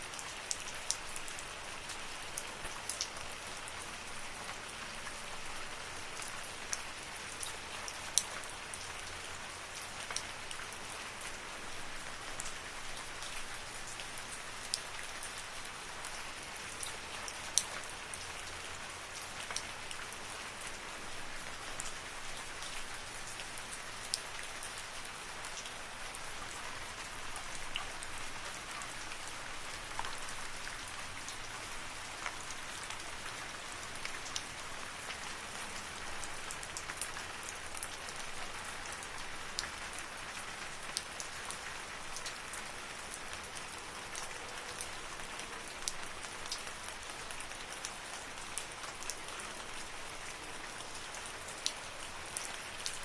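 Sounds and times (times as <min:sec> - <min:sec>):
raindrops ticking on leaves: 0:00.0 - 0:53.0.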